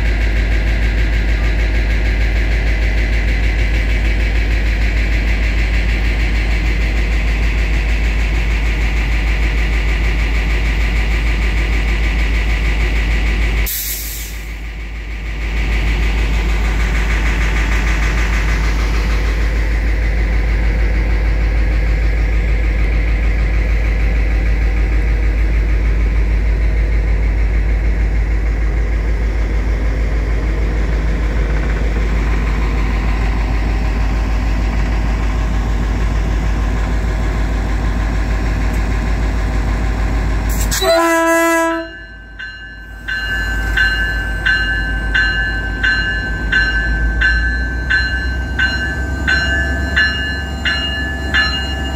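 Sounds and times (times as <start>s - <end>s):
diesel locomotive engine idling: 0.0s - 51.9s.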